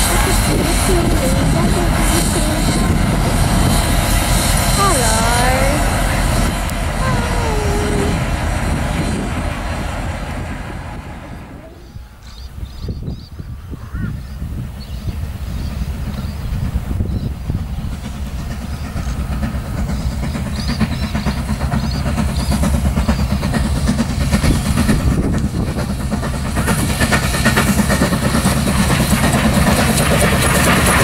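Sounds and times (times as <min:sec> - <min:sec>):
steam locomotive rumble and exhaust: 0:00.0 - 0:31.0.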